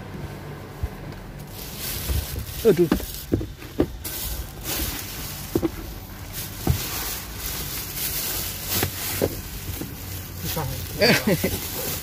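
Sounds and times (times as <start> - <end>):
plastic seat covers crinkling: 1.4 - 12.0.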